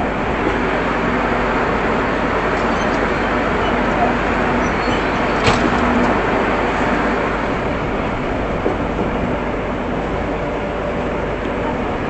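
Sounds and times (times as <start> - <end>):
train running noise inside coach: 0.0 - 12.0.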